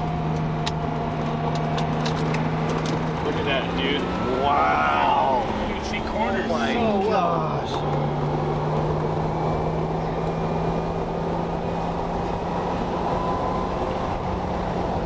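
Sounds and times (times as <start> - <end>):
car engine running steadily: 0.0 - 15.0
road noise: 0.0 - 15.0.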